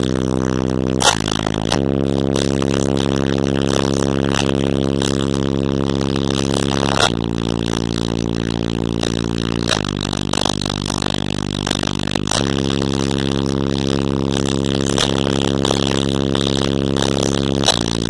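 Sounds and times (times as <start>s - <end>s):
loud distorted subwoofer bass: 0.0s - 18.0s.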